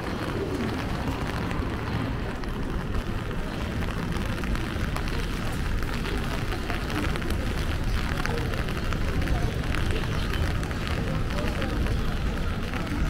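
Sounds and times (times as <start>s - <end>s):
city street rumble: 0.0s - 13.0s
raindrops ticking close by: 0.0s - 13.0s
steady rain: 0.0s - 13.0s.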